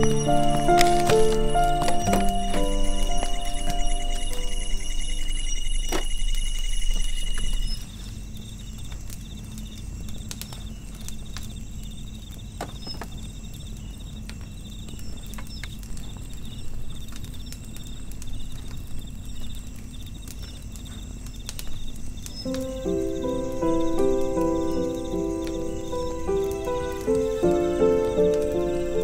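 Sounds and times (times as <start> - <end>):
insects chirping: 0.0 - 29.0
wood fire crackling: 0.0 - 29.0.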